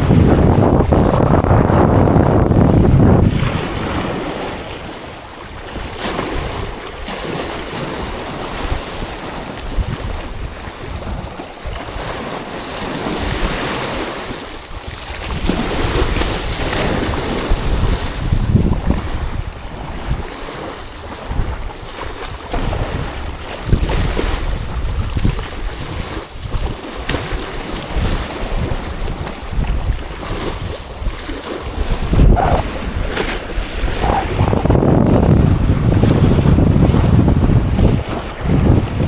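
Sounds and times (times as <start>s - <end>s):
sea waves: 0.0s - 39.0s
wind rumbling on microphone: 0.0s - 39.0s.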